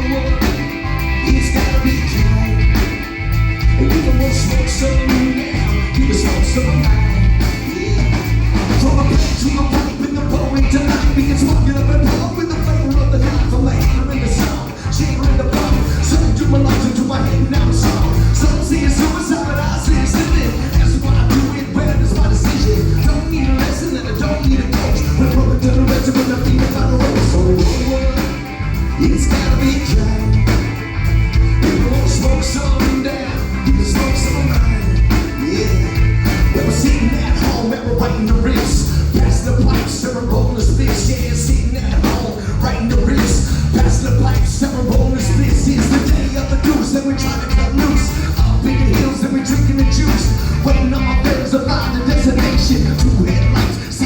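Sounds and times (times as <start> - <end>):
person singing: 0.0 - 54.0
rock band playing live: 0.0 - 54.0.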